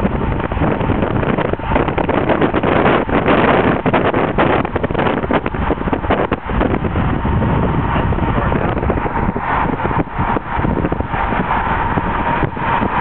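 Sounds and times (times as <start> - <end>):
car driving road noise: 0.0 - 13.0
wind buffeting microphone: 0.0 - 13.0.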